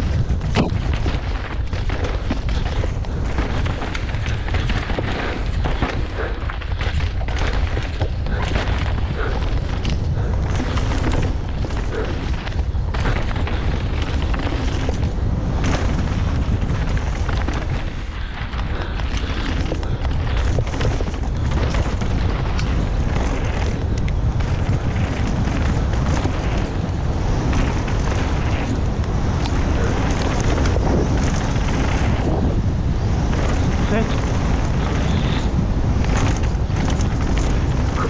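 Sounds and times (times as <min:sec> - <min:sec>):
bike rattling on rough trail: 0:00.0 - 0:38.0
tyres crunching over gravel: 0:00.0 - 0:38.0
wind buffeting microphone: 0:00.0 - 0:38.0.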